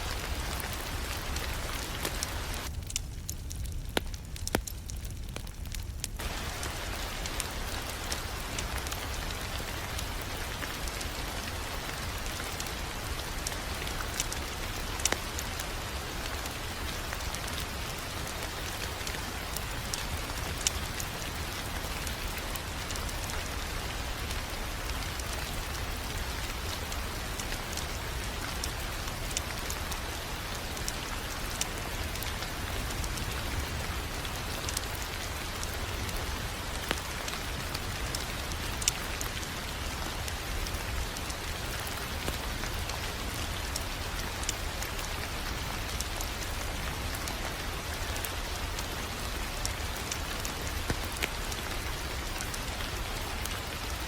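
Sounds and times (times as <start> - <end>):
rain-like hiss: 0.0 - 54.0
wood fire crackling and popping: 0.0 - 54.0.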